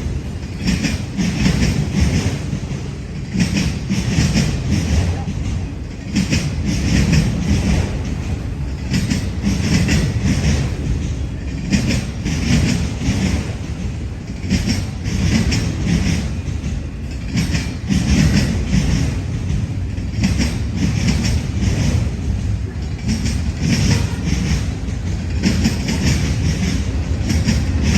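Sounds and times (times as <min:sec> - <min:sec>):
freight train rumbling: 0:00.0 - 0:27.9
train wheels clacking over rail joints: 0:00.0 - 0:27.9.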